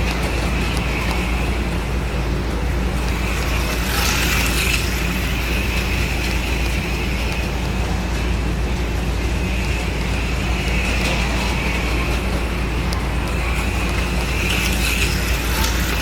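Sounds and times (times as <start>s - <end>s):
low electric hum: 0.0s - 16.0s
slot car motors whining: 0.0s - 16.0s.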